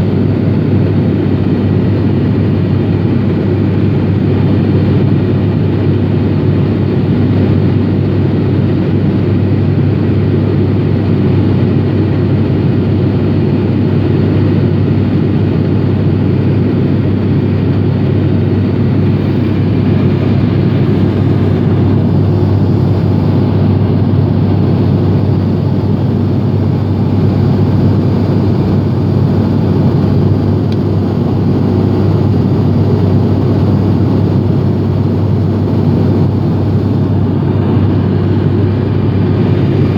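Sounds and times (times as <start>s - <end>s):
propeller aircraft cabin drone: 0.0s - 39.9s.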